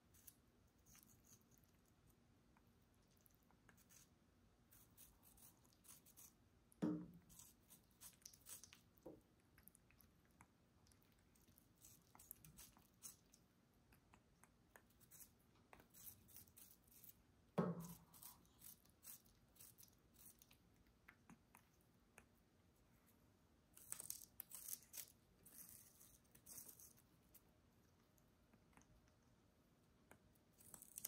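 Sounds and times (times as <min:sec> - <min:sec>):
parrot nibbling watermelon: 0:00.0 - 0:23.1, 0:23.7 - 0:31.0.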